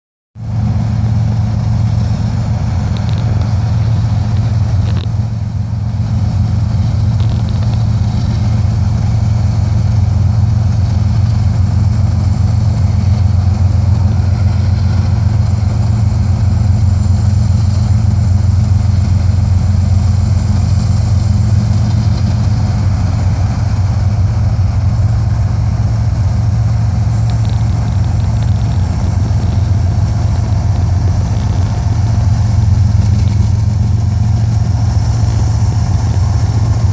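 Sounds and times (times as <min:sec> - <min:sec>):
diesel locomotive engine idling: 0:00.4 - 0:36.9.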